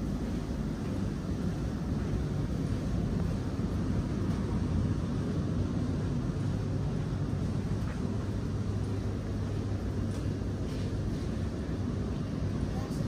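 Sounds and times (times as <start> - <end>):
train carriage hum and rumble: 0.0 - 13.0.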